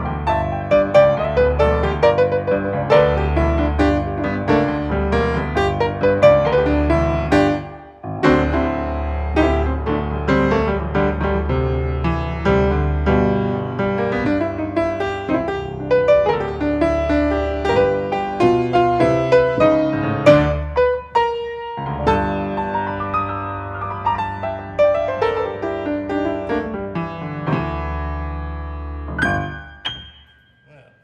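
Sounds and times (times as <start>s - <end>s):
piano playing: 0.0s - 30.9s.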